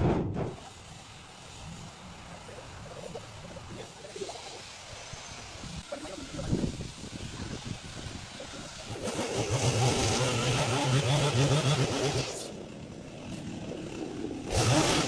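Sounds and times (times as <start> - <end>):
chainsaw engine revving: 0.6 - 15.0.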